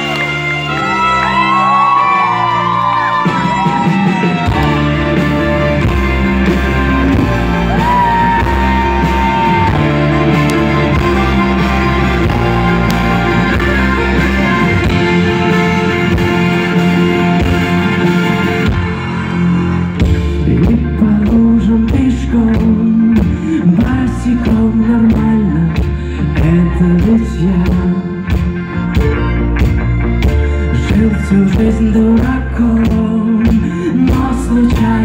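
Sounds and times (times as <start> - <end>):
live band playing: 0.0 - 35.0.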